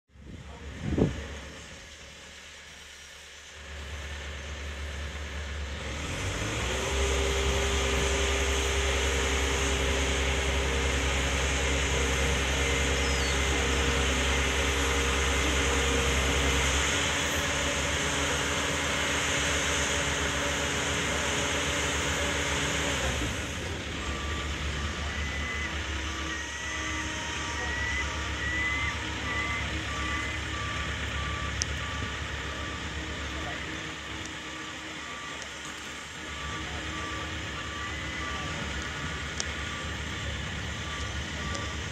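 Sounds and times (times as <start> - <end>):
boat lift engine droning: 0.1 - 41.9.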